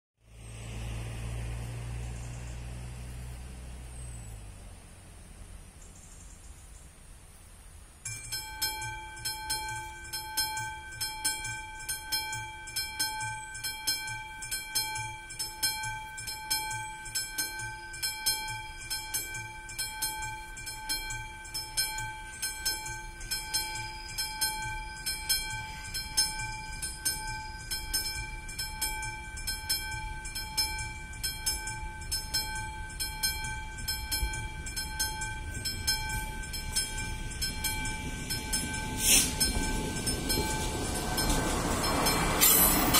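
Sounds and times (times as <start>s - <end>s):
train rumble: 0.2s - 42.9s
level crossing bell ringing: 8.1s - 42.9s.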